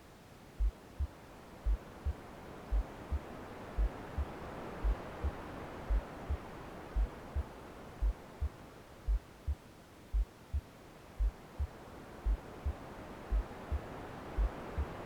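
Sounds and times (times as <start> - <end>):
soft white noise: 0.0 - 15.0
muffled heartbeat thumps: 0.6 - 15.0.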